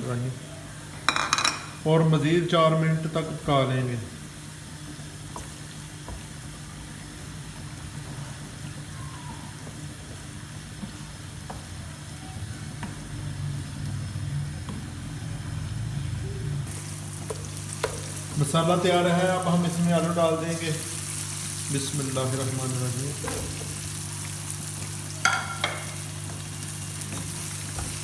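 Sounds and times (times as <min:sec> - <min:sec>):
vegetables frying in oil: 0:01.8 - 0:28.0.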